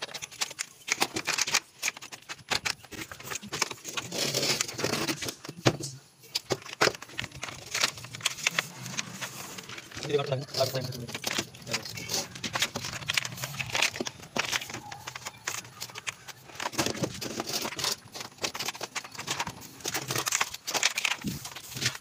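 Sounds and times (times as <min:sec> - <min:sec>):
hand rustling plastic pipes: 0:00.0 - 0:22.0.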